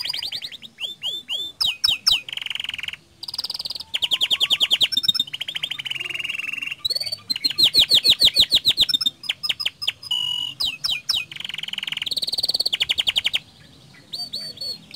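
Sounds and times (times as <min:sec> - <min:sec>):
canary singing trills: 0:00.0 - 0:14.9.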